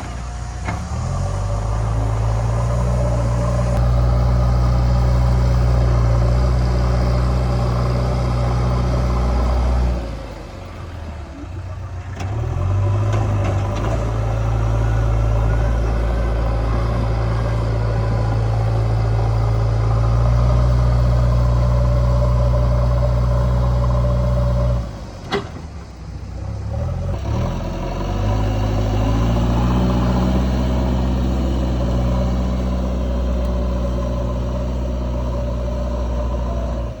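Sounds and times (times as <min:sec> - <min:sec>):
diesel engine running under load: 0:00.0 - 0:37.0.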